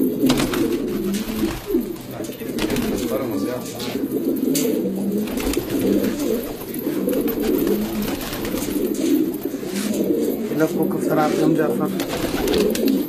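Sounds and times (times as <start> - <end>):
wings fluttering: 0.0 - 10.4, 11.8 - 13.0
pigeons cooing: 0.0 - 13.0.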